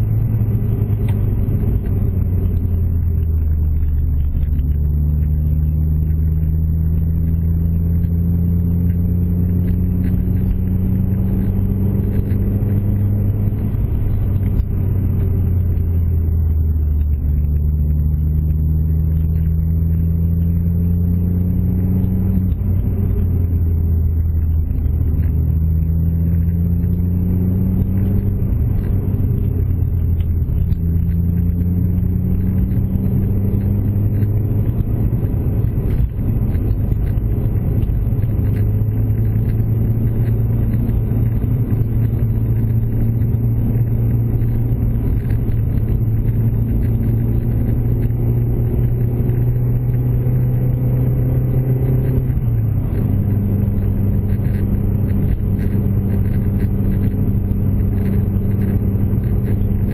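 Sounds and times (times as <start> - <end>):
car engine revving: 0.0 - 59.9
road rumble: 0.0 - 59.9.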